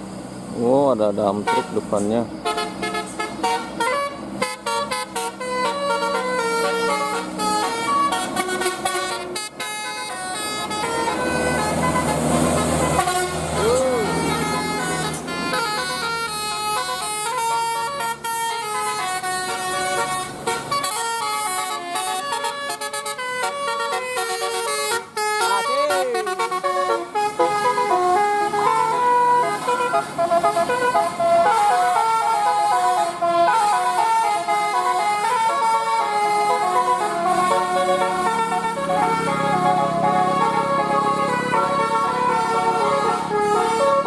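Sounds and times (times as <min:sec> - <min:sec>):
musical vehicle horn melody: 0:01.2 - 0:44.0.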